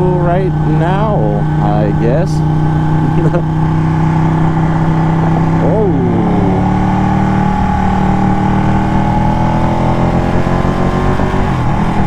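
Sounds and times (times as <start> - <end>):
low wind rumble: 0.0 - 12.0
motorcycle engine cruising: 0.0 - 12.0.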